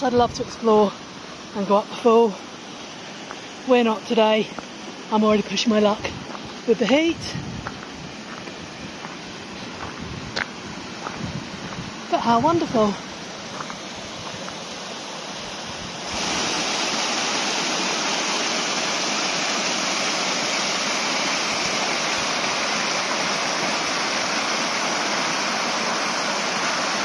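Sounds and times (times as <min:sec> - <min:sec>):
waterfall rushing over rocks: 0:00.0 - 0:27.0.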